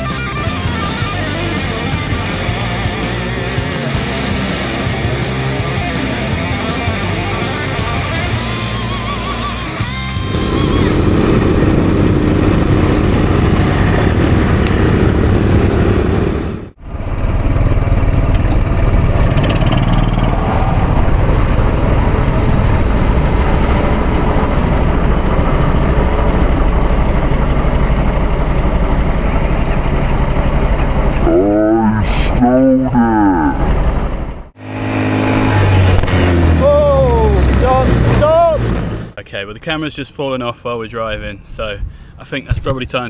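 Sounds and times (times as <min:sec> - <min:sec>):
quad bike engine rumbling: 0:00.0 - 0:39.2.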